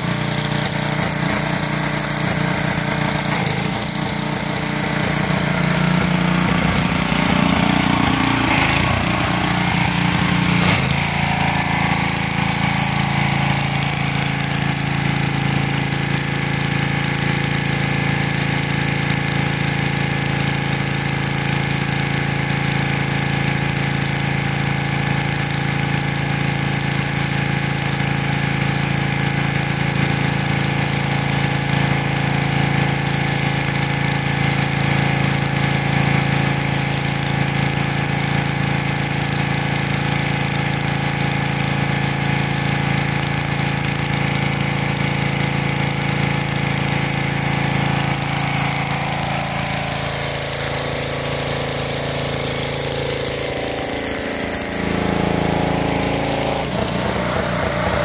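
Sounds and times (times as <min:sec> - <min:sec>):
small gas engine running: 0:00.0 - 0:58.0
water jet hissing on concrete: 0:00.0 - 0:58.0.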